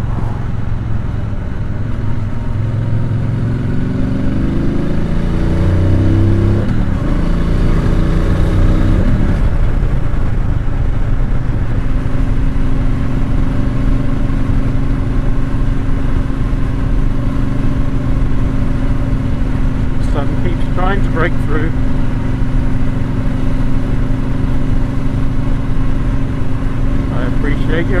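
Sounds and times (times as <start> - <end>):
motorcycle engine at road speed: 0.0 - 28.0
wind and road noise: 0.0 - 28.0.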